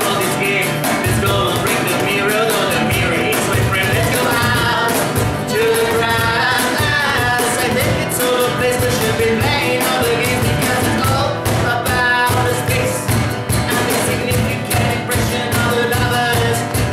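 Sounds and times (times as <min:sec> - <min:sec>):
cajon beat: 0:00.0 - 0:16.9
man singing: 0:00.0 - 0:16.9
strummed acoustic guitar: 0:00.0 - 0:16.9.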